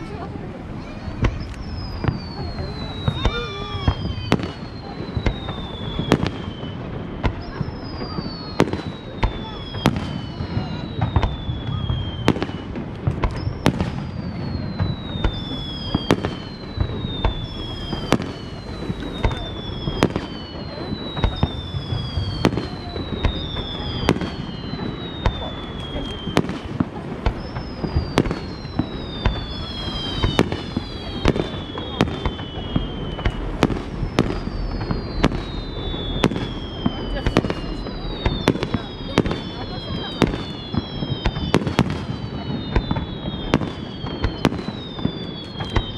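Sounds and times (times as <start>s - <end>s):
falling fireworks whistles: 0.0s - 45.9s
fireworks bangs: 0.0s - 45.9s.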